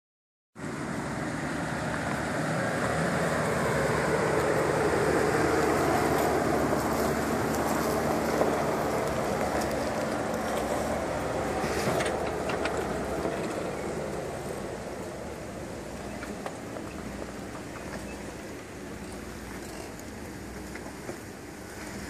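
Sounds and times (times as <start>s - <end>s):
off-road vehicle engine running: 0.6s - 22.0s
tyres crackling over rocks: 1.7s - 22.0s.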